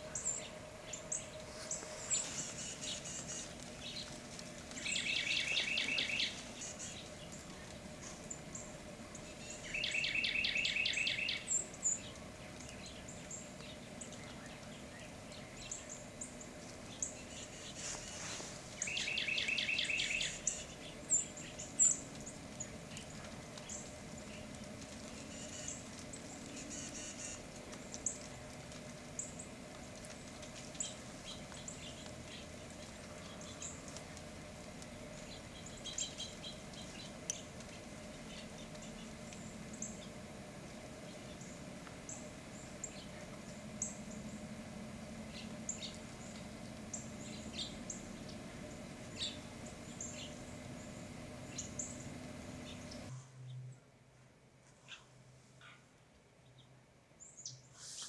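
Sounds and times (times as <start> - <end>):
small birds chirping: 0.0 - 53.8
steady low hum: 0.0 - 58.0.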